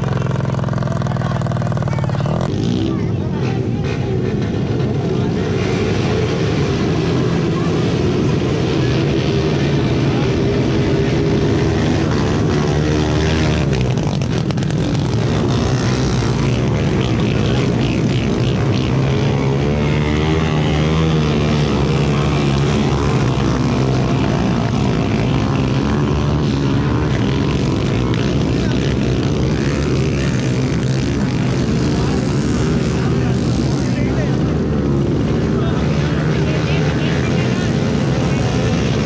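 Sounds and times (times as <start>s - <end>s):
motorcycles revving: 0.0s - 39.0s.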